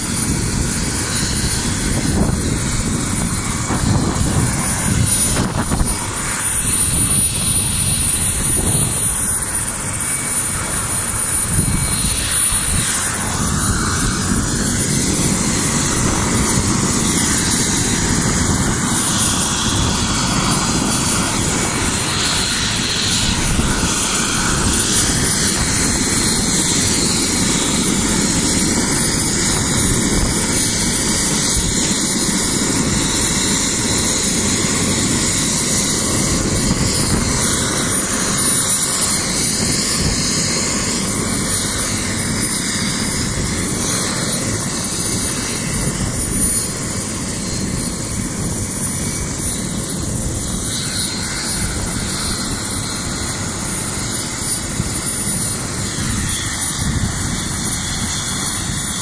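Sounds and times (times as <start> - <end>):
high whine: 0.0 - 58.8
helicopter rotor and engine: 0.0 - 59.0.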